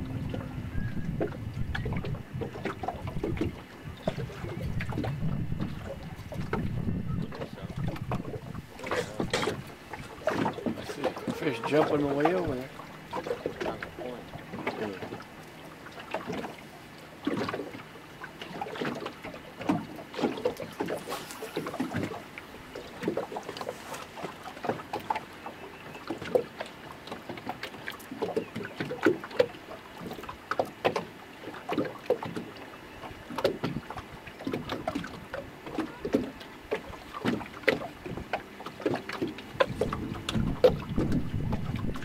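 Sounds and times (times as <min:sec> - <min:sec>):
waves lapping against boat hull: 0:00.0 - 0:42.0.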